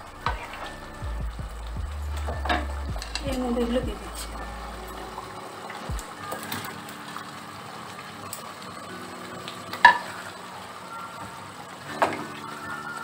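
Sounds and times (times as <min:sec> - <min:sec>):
sauce bubbling and sizzling in pan: 0:00.0 - 0:13.0.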